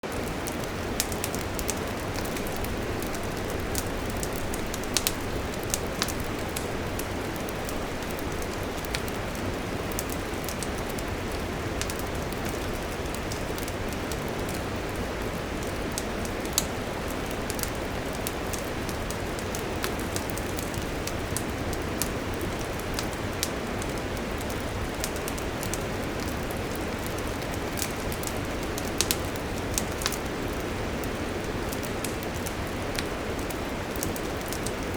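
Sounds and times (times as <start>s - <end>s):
fire crackling and popping: 0.0s - 34.9s
wood fire hissing: 0.1s - 34.9s.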